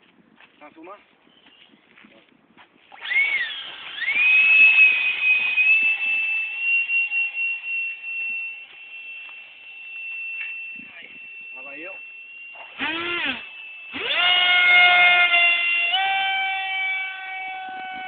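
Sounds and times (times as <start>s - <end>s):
model jet motor whining: 2.9s - 18.0s.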